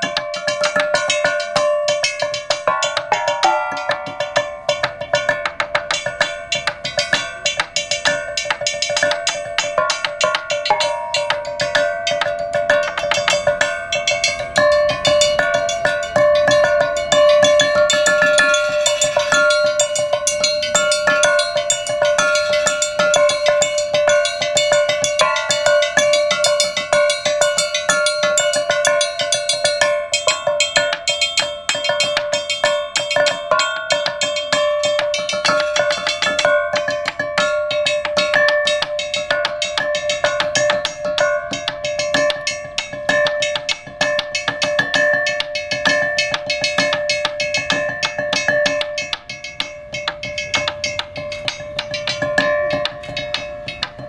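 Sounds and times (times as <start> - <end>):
mallets striking metal boxes: 0.0 - 54.0.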